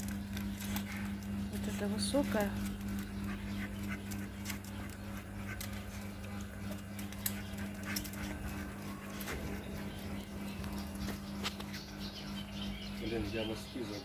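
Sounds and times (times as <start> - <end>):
puppy's paws on steps: 0.0 - 14.0
steady low hum: 0.0 - 14.0.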